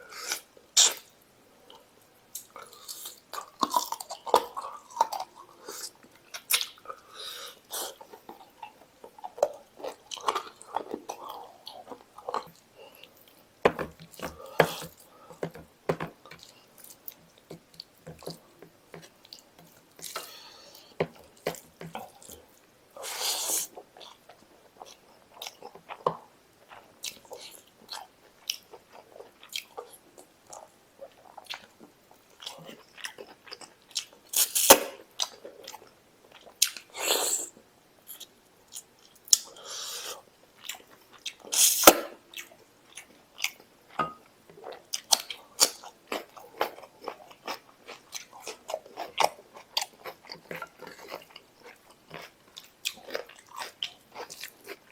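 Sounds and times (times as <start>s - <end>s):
close chewing with mouth clicks: 1.7s - 54.9s.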